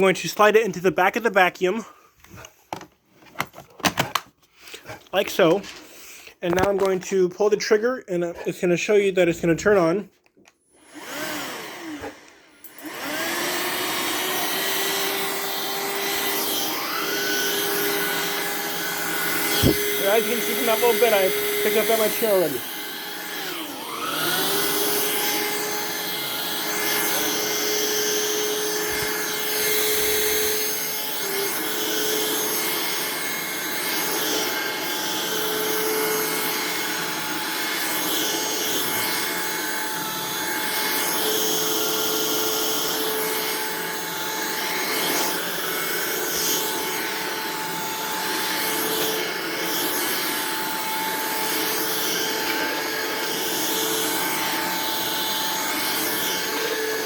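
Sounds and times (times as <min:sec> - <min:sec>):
cordless vacuum running: 0:10.7 - 0:57.0.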